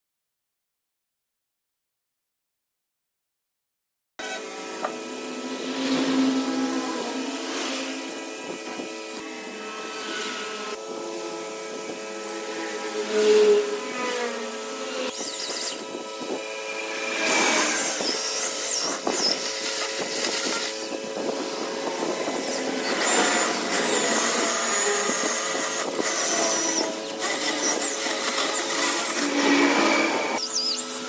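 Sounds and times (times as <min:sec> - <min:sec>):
power tool whining into wood: 0:04.2 - 0:31.0.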